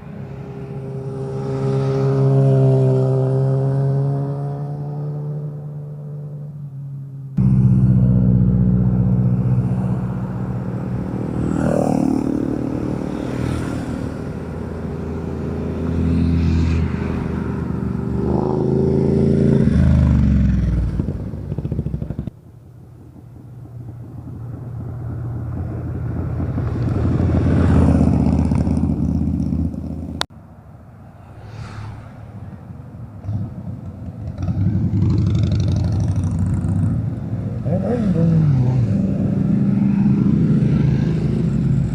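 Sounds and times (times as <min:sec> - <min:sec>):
motorcycles accelerating past: 0:00.0 - 0:06.5, 0:07.4 - 0:22.3, 0:23.0 - 0:30.2, 0:31.2 - 0:41.9.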